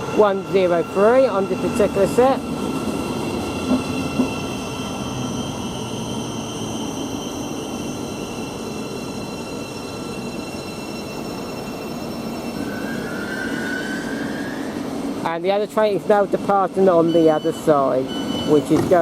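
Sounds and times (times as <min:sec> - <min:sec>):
train rail and running noise: 0:00.0 - 0:19.0.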